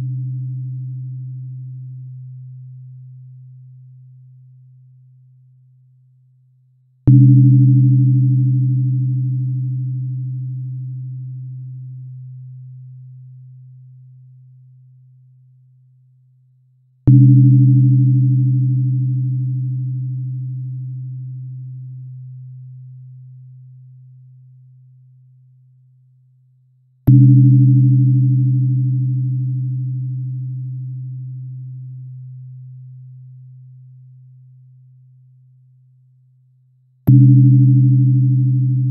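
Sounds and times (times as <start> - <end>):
tuning fork hum: 0.0 - 6.3, 7.0 - 16.4, 17.0 - 26.4, 27.0 - 38.9.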